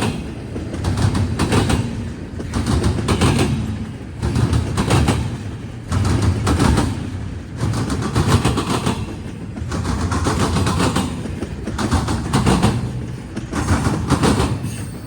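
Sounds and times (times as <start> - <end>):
low train rumble: 0.0 - 15.0
train wheels banging over crossing: 0.0 - 15.0.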